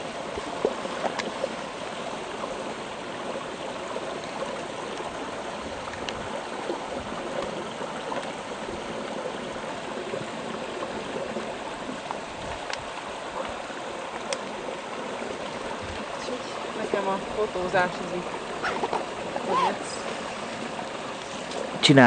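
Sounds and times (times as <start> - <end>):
brook water trickling: 0.0 - 22.0.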